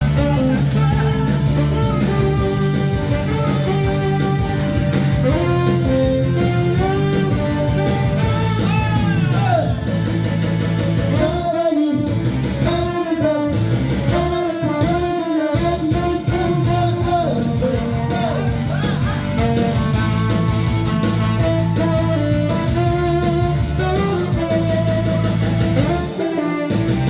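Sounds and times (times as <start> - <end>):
instrumental accompaniment: 0.0 - 27.0
saxophone melody: 0.0 - 27.0.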